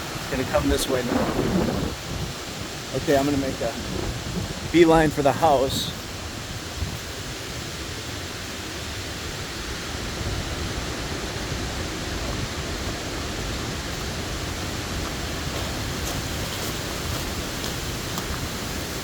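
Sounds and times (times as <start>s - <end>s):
strong wind gusts: 0.0s - 19.0s.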